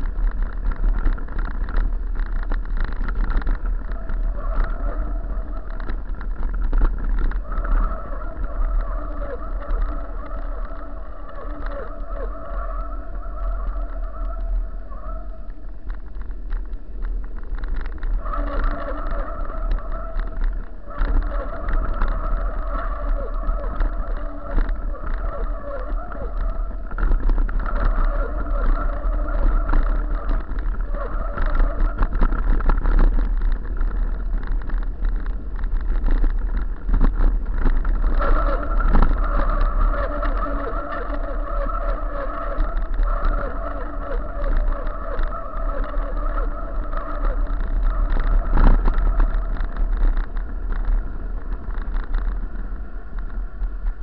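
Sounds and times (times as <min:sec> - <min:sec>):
bike rattling on rough ground: 0:00.0 - 0:54.0
wind rumble on microphone: 0:00.0 - 0:54.0.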